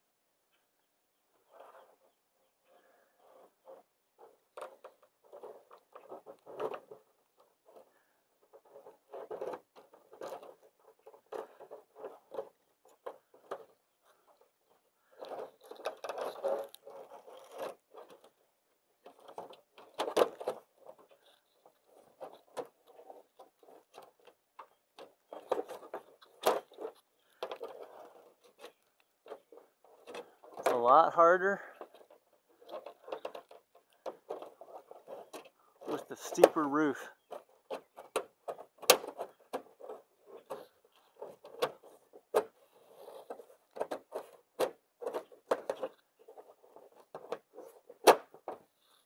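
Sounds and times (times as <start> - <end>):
gutter guard scraping on shingles: 2.7 - 49.0.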